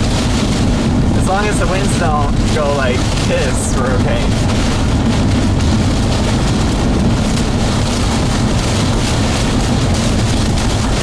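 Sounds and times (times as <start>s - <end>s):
road noise: 0.0s - 11.0s
storm wind against a car: 0.0s - 11.0s.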